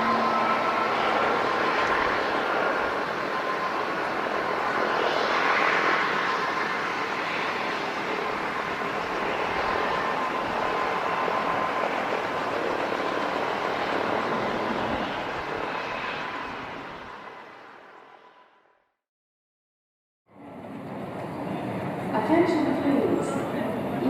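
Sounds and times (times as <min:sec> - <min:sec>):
airplane engines whining: 0:00.0 - 0:18.7, 0:20.3 - 0:24.0.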